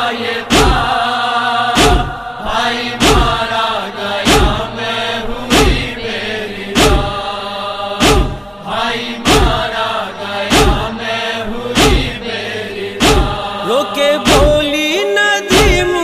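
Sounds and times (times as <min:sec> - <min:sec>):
chanted mournful voices: 0:00.0 - 0:16.0
heavy rhythmic thumps: 0:00.0 - 0:16.0.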